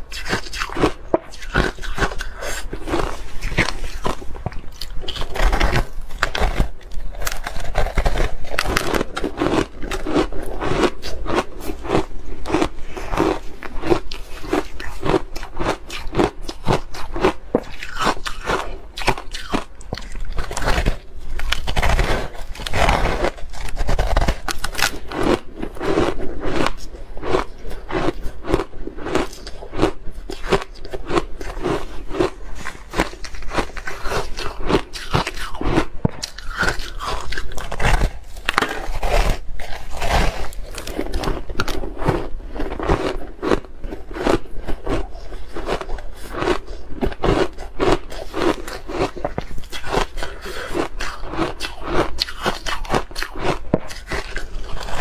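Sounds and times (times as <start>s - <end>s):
ice being crunched by teeth: 0.1s - 55.0s.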